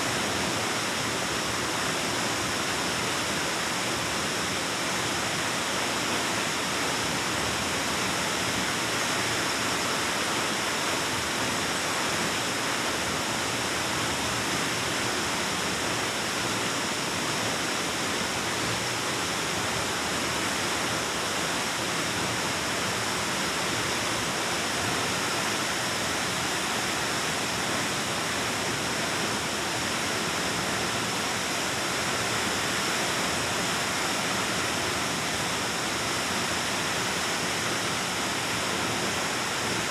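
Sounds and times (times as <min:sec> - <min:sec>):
waterfall roaring in a cave: 0:00.0 - 0:39.9.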